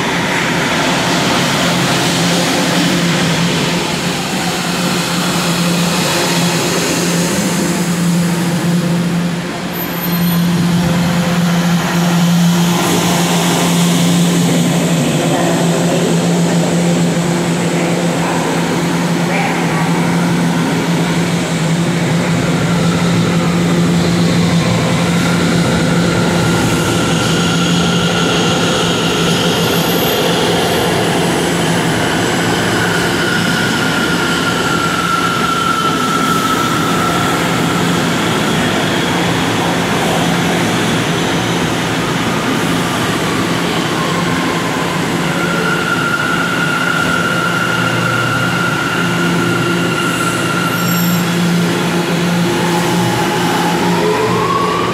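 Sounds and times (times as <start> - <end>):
train equipment low hum: 0.0 - 54.9.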